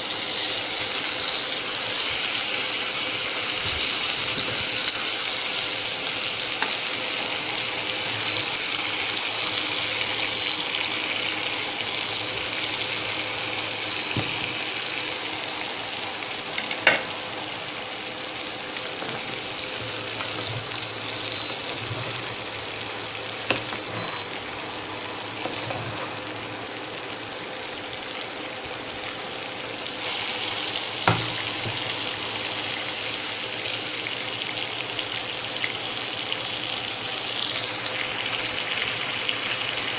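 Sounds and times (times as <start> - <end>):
meat sizzling in a pan: 0.0 - 39.9.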